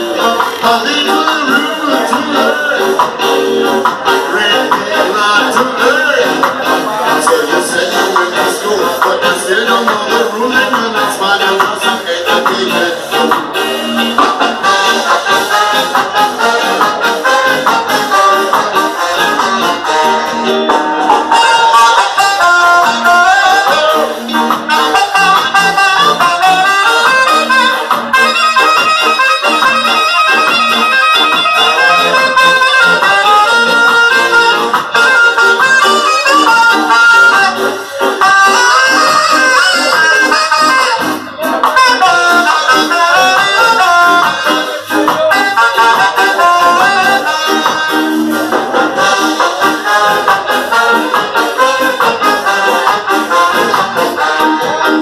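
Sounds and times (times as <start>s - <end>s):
live ska band playing: 0.0s - 55.0s
pulsing rhythm section: 0.0s - 55.0s
trombone and trumpet melody: 0.0s - 55.0s.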